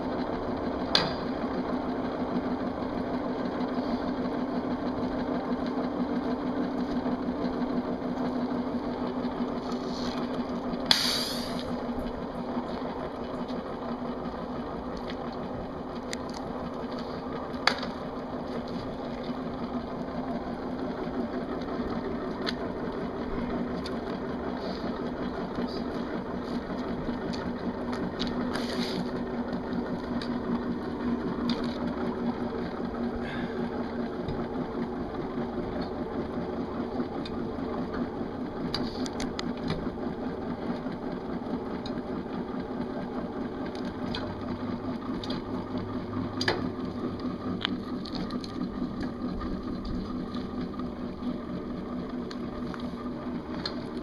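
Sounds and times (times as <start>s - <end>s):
turbine whirring and humming: 0.0s - 54.0s.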